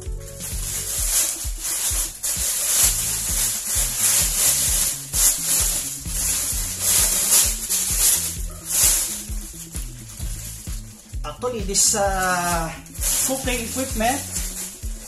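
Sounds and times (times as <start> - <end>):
background music with bass beat: 0.0 - 15.0
plastic wrapping crinkling: 0.0 - 15.0.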